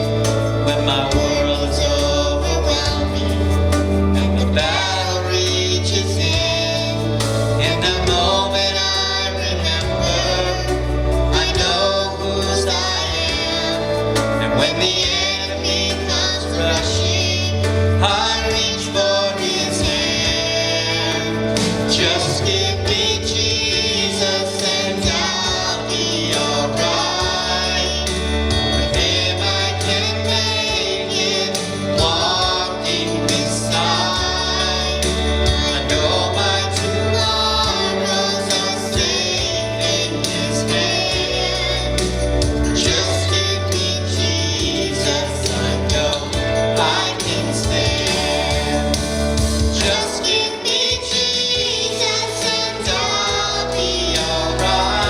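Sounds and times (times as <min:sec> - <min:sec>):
gospel singing: 0:00.0 - 0:55.0
musical accompaniment: 0:00.0 - 0:55.0
sustained bass line: 0:00.0 - 0:55.0.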